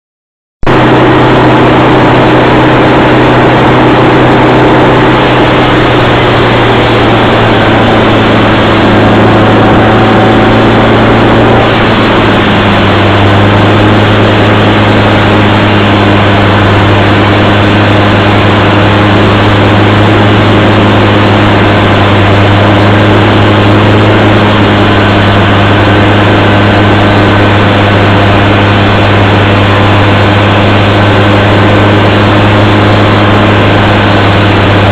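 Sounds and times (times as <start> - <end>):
sawmill mechanical drone: 0.6 - 34.9.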